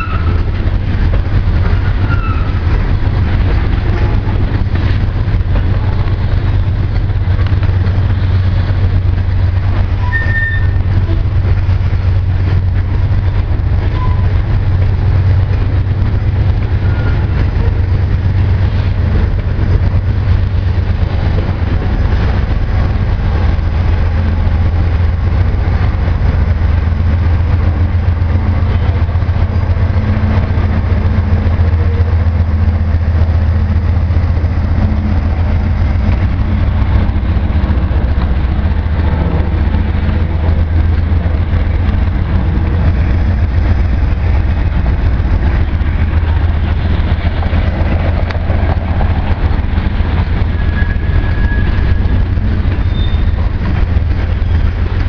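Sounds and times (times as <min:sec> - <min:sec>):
locomotive diesel engine drone: 0:00.0 - 0:55.0
rolling rumble of train cars: 0:00.0 - 0:55.0.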